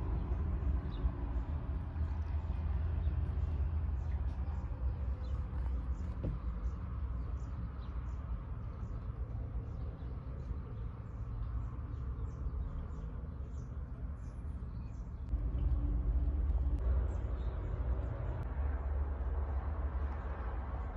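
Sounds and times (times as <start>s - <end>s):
small birds chirping: 0.0s - 18.5s
steady low rumble: 0.0s - 20.9s.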